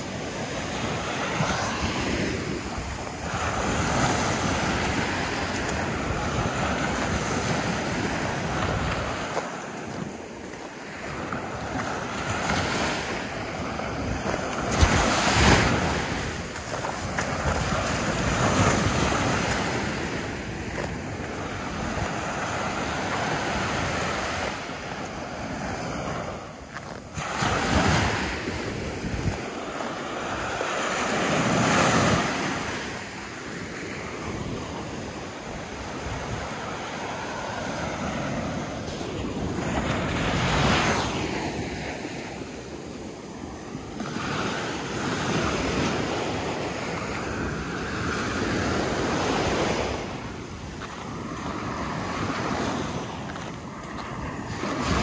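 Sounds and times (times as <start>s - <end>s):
ocean surf breaking on shore: 0.0s - 55.0s.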